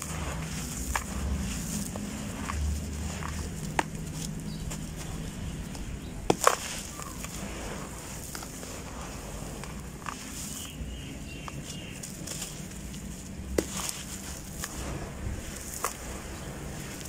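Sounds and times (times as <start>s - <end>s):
gritty crumbs pouring and rustling: 0.0s - 17.0s
lumps crunching: 0.0s - 17.0s.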